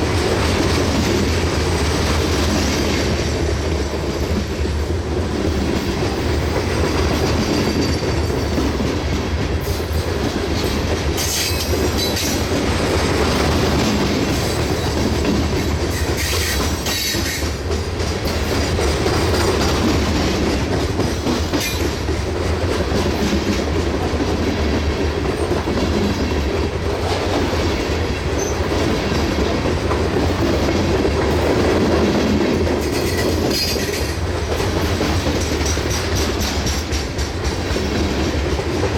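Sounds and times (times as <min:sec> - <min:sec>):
train rumble: 0:00.0 - 0:38.9
train wheels clicking over rail joints: 0:00.0 - 0:38.9.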